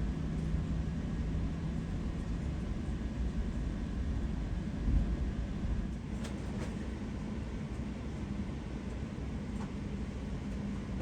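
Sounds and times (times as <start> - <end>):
low aircraft cabin rumble: 0.0 - 11.0.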